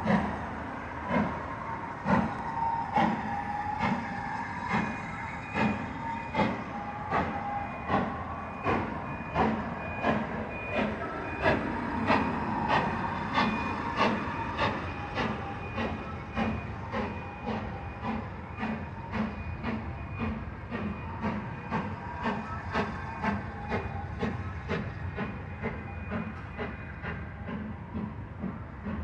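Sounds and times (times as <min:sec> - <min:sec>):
steam locomotive exhaust beats: 0:00.0 - 0:29.0.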